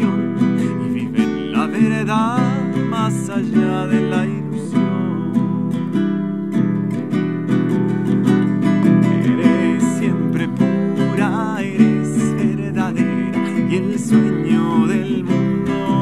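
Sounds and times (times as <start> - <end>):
man singing wordless melody: 0.0 - 6.0, 8.6 - 16.0
classical guitar strumming: 0.0 - 16.0.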